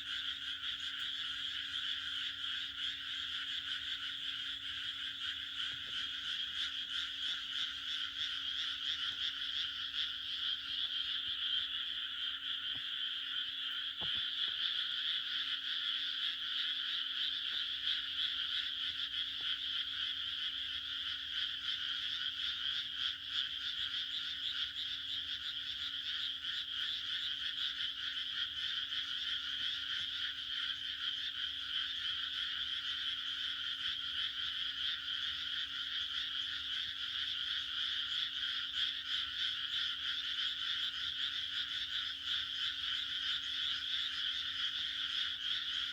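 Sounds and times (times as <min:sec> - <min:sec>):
chorus of frogs croaking: 0:00.0 - 0:45.9.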